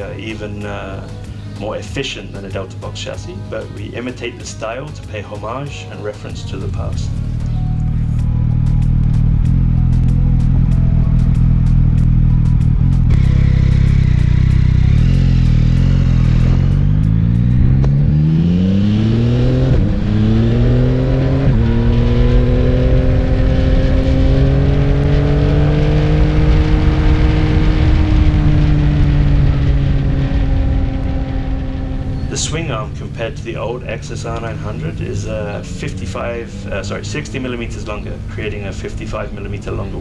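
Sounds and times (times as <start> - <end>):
motorcycle engine revving: 6.4 - 40.0.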